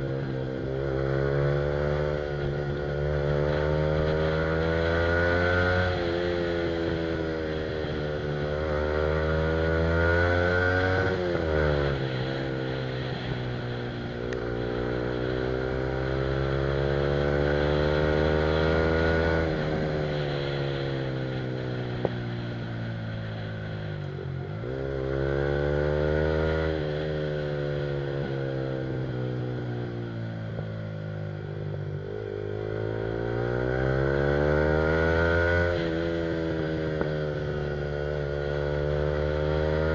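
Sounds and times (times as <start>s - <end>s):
motorcycle engine revving: 0.0s - 39.9s
wind and tyre hiss: 0.0s - 39.9s.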